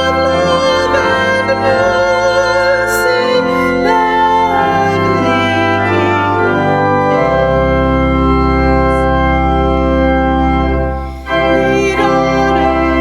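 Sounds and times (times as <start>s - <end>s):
organ playing held chords: 0.0s - 13.0s.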